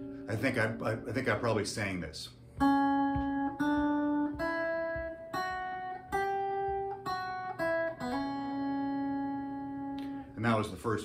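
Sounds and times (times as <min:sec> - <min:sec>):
clean electric guitar melody: 0:00.0 - 0:01.7, 0:02.4 - 0:10.4.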